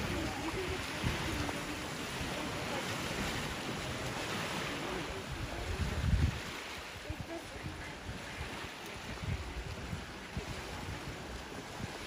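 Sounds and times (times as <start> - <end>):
waves washing onto gravel: 0.0 - 12.0
wind rumbling on microphone: 0.0 - 12.0.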